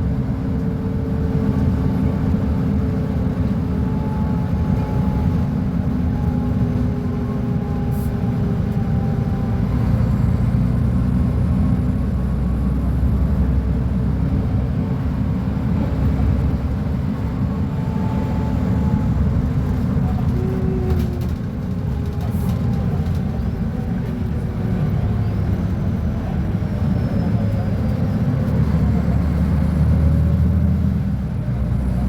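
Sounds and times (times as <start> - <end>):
bus diesel engine drone: 0.0 - 32.0.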